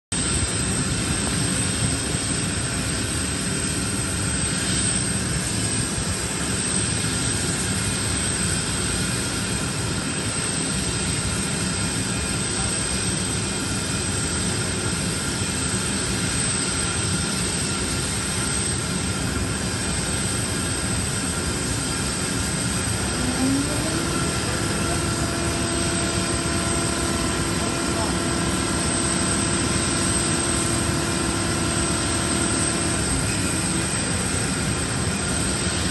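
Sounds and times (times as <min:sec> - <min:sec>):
jet turbine whine: 0:00.1 - 0:35.9.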